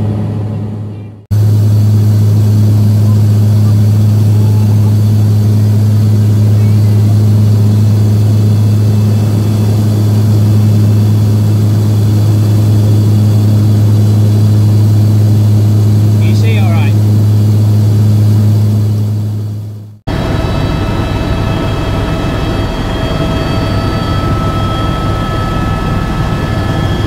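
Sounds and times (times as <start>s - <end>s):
propeller aircraft cabin drone: 0.0s - 27.0s.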